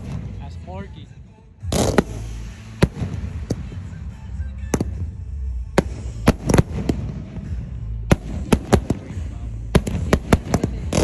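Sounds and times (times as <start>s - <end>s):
fireworks bangs: 0.0s - 0.4s, 1.7s - 4.1s, 4.7s - 11.0s.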